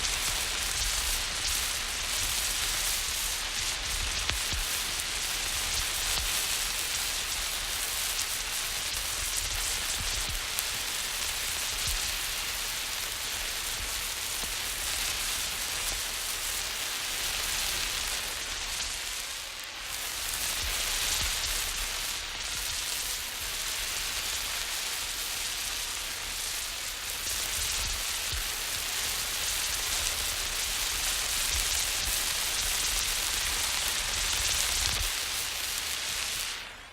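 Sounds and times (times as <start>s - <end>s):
flare burning with a hiss: 0.0s - 36.9s.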